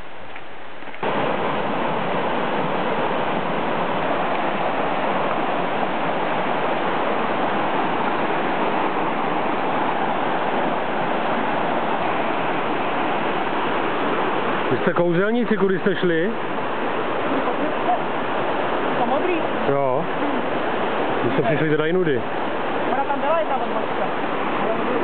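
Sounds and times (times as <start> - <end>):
stream rushing over boulders: 0.0 - 25.0.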